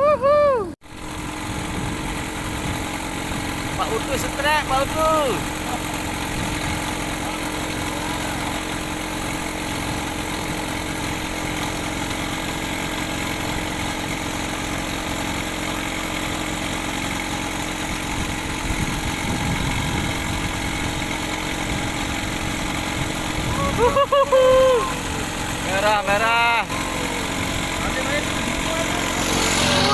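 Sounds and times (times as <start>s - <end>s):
boat engine idling: 0.0s - 29.9s.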